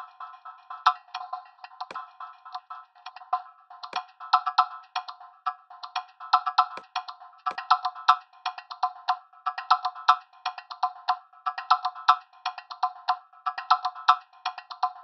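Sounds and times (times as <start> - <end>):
clicky wood-block percussion loop: 0.0 - 15.0.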